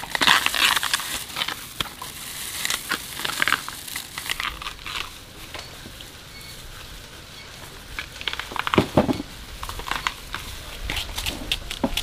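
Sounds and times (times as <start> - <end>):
bamboo husks tearing and crackling: 0.0 - 12.0.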